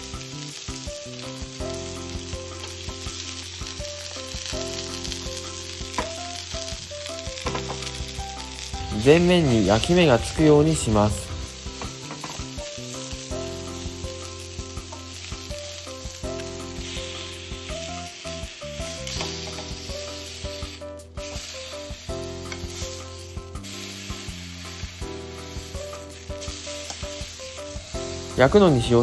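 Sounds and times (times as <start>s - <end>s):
background music: 0.0s - 29.0s
meat sizzling in a frying pan: 0.0s - 29.0s.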